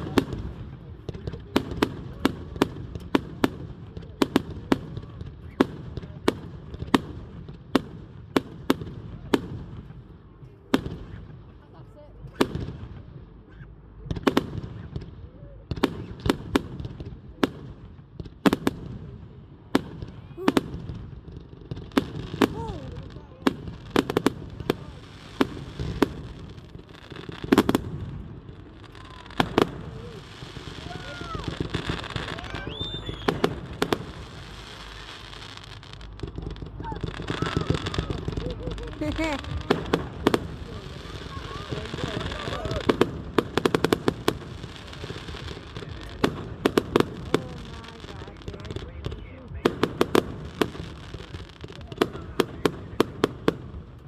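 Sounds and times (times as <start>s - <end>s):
fireworks cracking: 0.0s - 10.0s, 19.8s - 54.0s.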